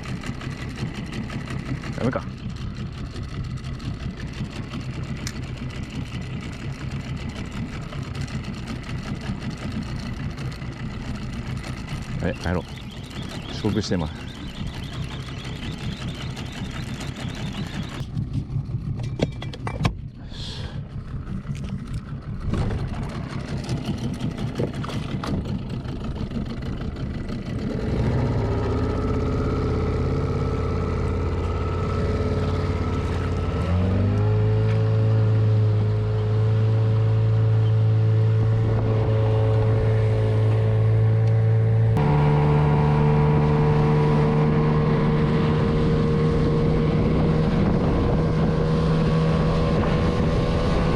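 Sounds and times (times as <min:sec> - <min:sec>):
outboard motor running: 0:00.0 - 0:50.9.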